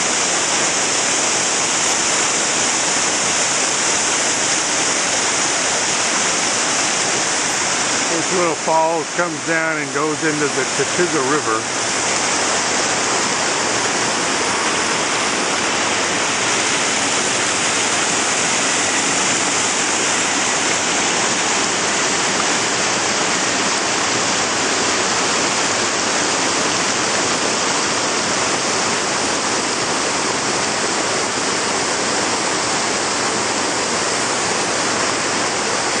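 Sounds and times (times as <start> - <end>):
waterfall rushing over rock: 0.0 - 36.0.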